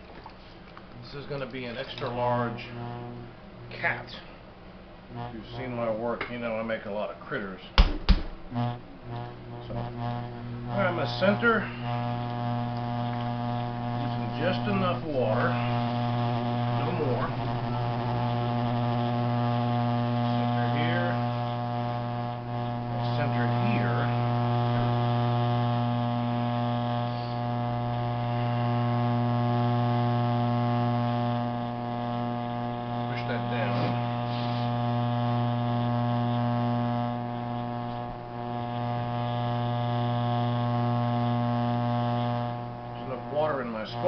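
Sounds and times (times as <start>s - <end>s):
potter's wheel electrical hum: 0.0s - 44.0s.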